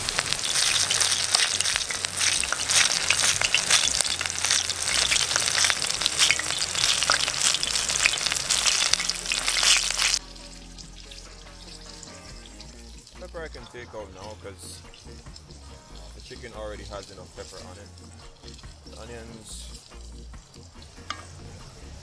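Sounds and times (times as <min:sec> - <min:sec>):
hot oil sizzling and popping: 0:00.0 - 0:22.0.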